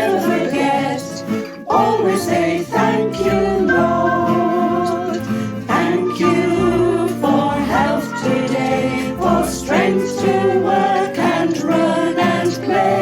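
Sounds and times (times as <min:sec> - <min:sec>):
instrumental accompaniment: 0:00.0 - 0:13.0
voices singing praise music: 0:00.0 - 0:13.0.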